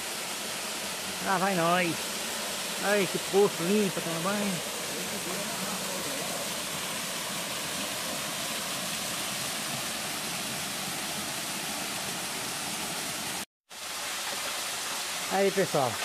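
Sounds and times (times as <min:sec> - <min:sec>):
waterfall pouring into pool: 0:00.0 - 0:16.0.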